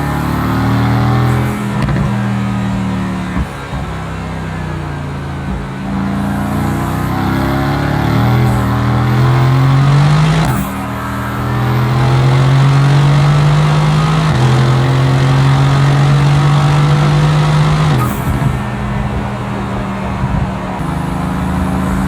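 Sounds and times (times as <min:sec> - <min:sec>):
car engine revving through gears: 0:00.0 - 0:22.0.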